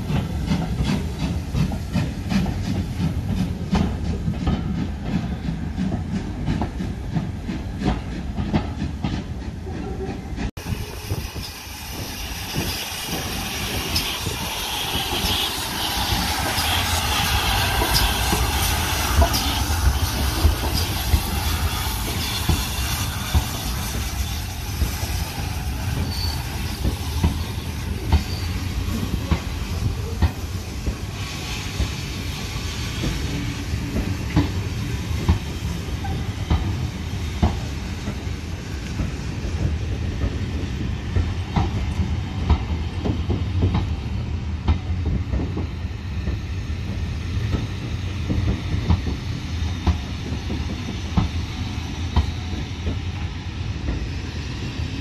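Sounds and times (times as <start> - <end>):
low train rumble: 0.0 - 55.0
steam locomotive hiss: 0.0 - 55.0.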